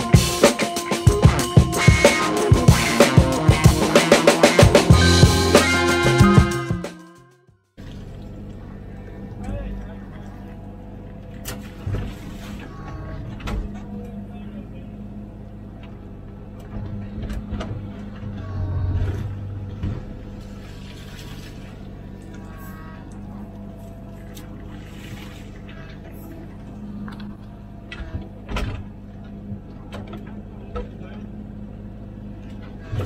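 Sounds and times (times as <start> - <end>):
mini excavator diesel engine: 0.0 - 6.7, 7.8 - 33.0.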